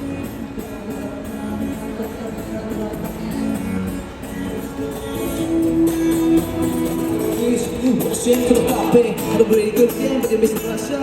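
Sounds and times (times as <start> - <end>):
guitar playing pop song: 0.0 - 11.0.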